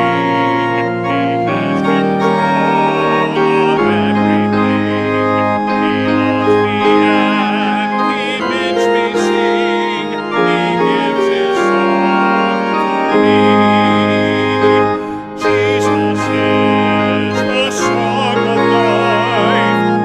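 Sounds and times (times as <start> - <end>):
church organ playing: 0.0 - 20.0
congregation singing a hymn: 0.0 - 20.0.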